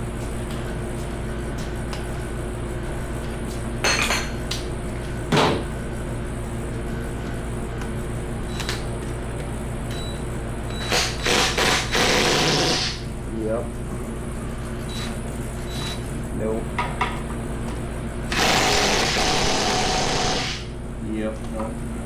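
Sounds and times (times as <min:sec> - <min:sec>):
steady shop hum: 0:00.0 - 0:22.0.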